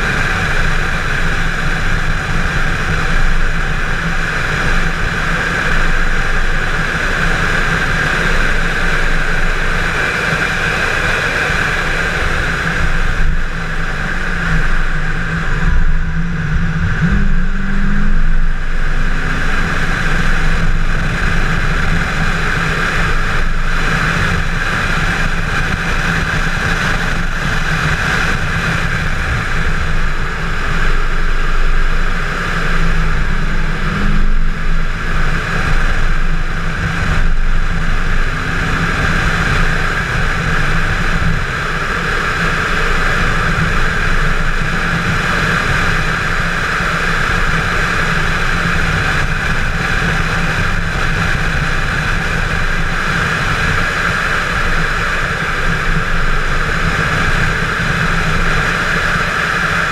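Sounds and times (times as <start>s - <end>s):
car engine drone: 0.0s - 59.9s
wind noise: 0.0s - 59.9s.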